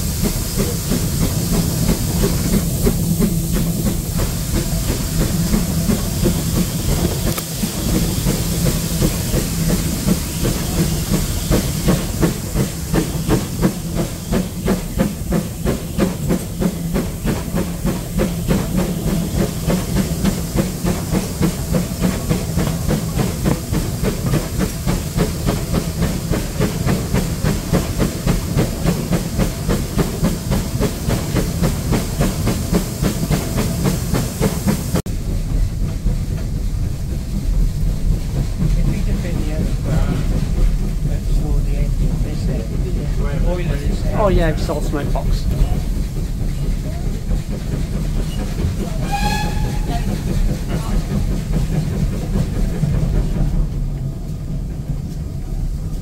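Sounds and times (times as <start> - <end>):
steam hiss: 0.0 - 56.0
steam locomotive exhaust beats: 0.0 - 56.0
train rumbling: 0.0 - 56.0.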